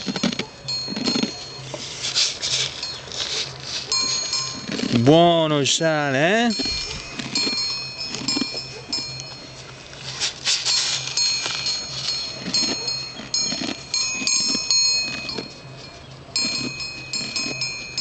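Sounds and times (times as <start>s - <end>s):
donkey licking and crunching: 0.0s - 5.2s, 6.0s - 18.0s.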